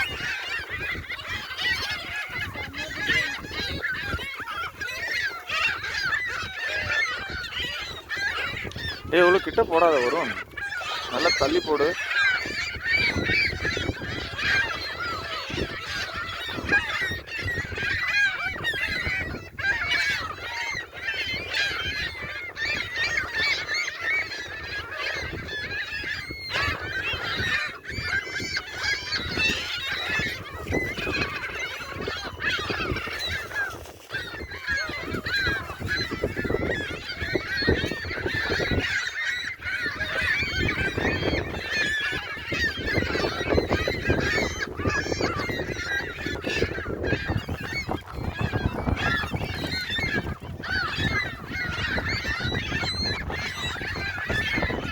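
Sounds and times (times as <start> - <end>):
seagulls calling: 0.0 - 54.9.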